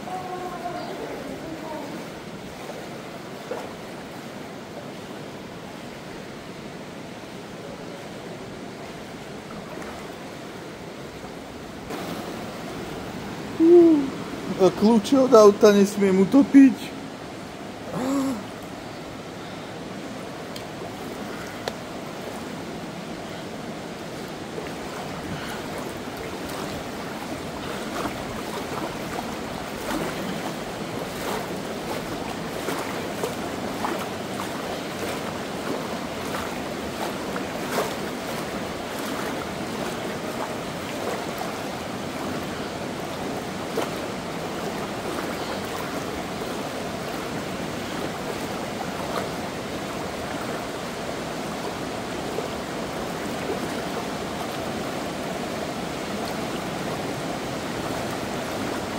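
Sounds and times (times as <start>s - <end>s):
river water rushing: 0.0s - 58.9s
water splashes: 0.0s - 58.9s.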